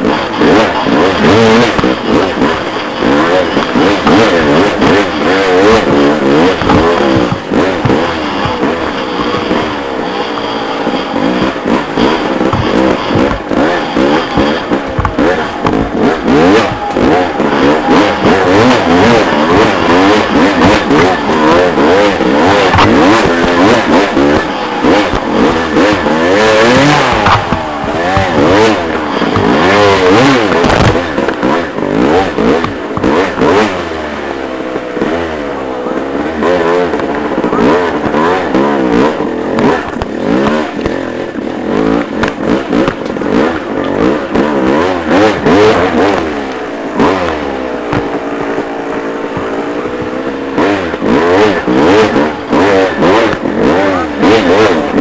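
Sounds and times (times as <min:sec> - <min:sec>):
bike knocking and clattering: 0:00.0 - 0:55.0
dirt bike engine revving: 0:00.0 - 0:55.0.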